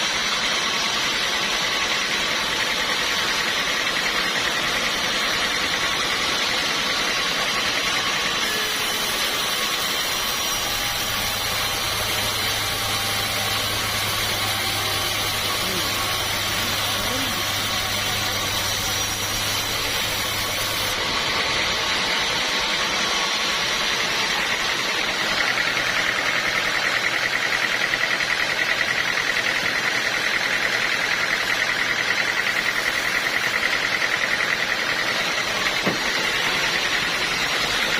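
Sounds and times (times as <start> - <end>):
sawmill saw cutting log: 0.0 - 37.9.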